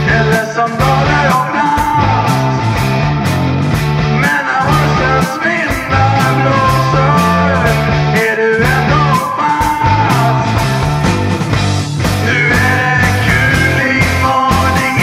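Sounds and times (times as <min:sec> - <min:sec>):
music with steady drum beat: 0:00.0 - 0:15.0.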